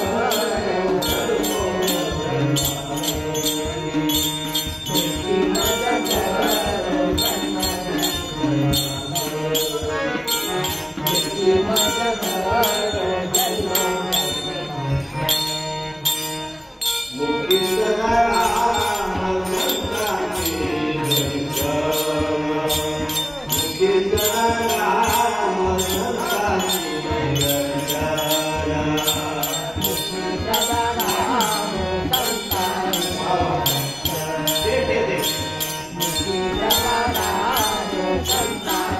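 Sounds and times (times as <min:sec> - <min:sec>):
hand cymbals jingling: 0:00.0 - 0:38.9
man singing devotional song: 0:00.0 - 0:38.9.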